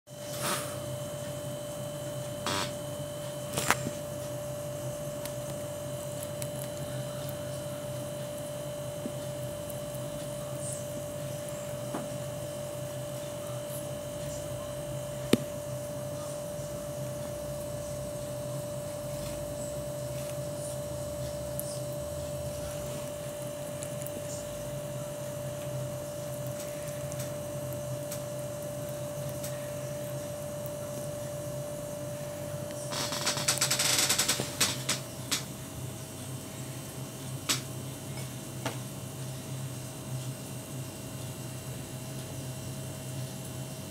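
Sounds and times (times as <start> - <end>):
steady hum: 0.1 - 43.9.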